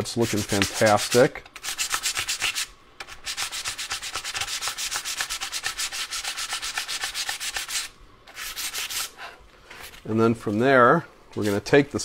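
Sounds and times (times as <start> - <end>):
sandpaper rubbing on metal rails: 0.0 - 10.0.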